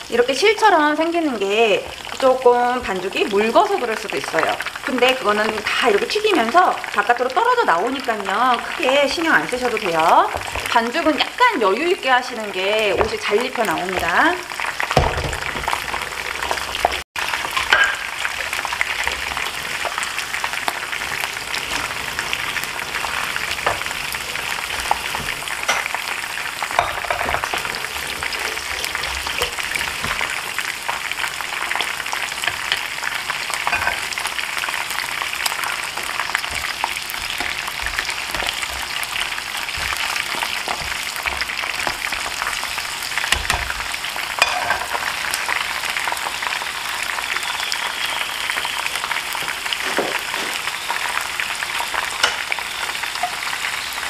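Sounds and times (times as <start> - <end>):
shrimp deep-frying in oil: 0.0 - 54.0.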